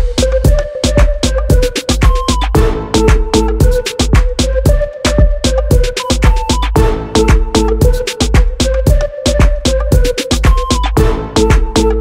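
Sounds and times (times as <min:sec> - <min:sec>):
electronic drum beat music: 0:00.0 - 0:12.0.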